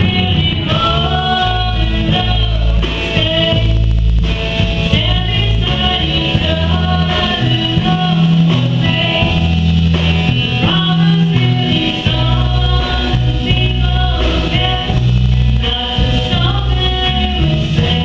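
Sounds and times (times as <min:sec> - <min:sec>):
woman singing into microphone: 0:00.0 - 0:03.9, 0:04.8 - 0:09.6, 0:10.3 - 0:18.0
backing music with bass line: 0:00.0 - 0:18.0.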